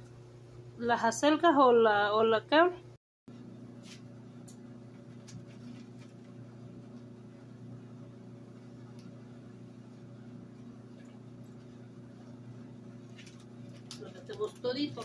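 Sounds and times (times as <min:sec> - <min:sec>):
low electrical appliance hum: 0:00.0 - 0:15.0.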